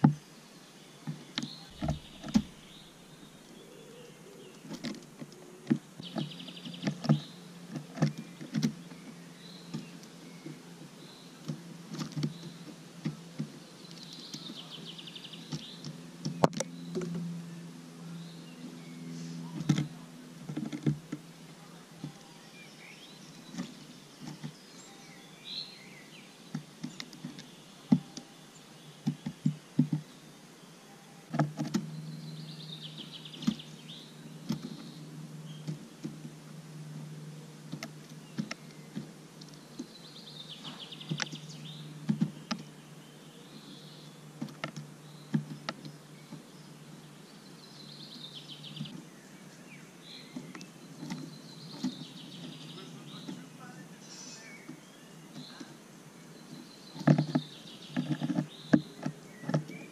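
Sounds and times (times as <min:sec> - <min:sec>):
low steady hum: 0:00.0 - 0:59.9
bird bill tapping on seeds: 0:01.0 - 0:03.6, 0:04.4 - 0:17.3, 0:19.5 - 0:25.0, 0:25.9 - 0:30.2, 0:31.3 - 0:32.0, 0:32.9 - 0:43.0, 0:43.6 - 0:47.2, 0:47.8 - 0:55.8, 0:56.4 - 0:59.9.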